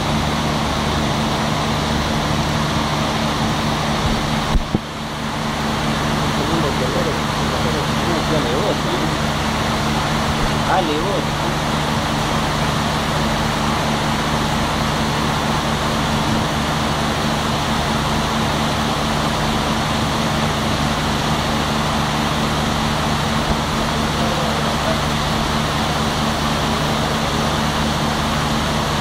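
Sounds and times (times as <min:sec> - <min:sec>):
generators droning: 0:00.0 - 0:29.0.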